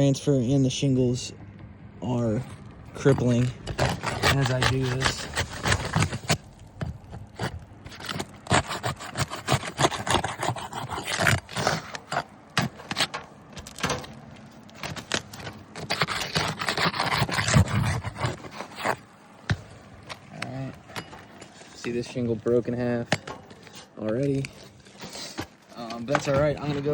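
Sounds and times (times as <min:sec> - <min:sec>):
roof shingles crackling and scraping: 0:00.0 - 0:26.9.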